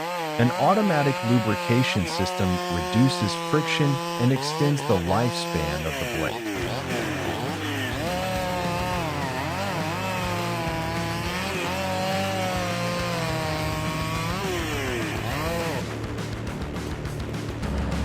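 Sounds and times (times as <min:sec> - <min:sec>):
chainsaw cutting wood: 0:00.0 - 0:17.3.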